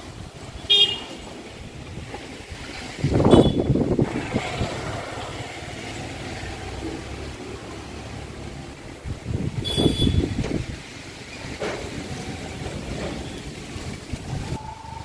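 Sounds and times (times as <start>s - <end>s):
wind buffeting microphone: 1.2s - 15.0s.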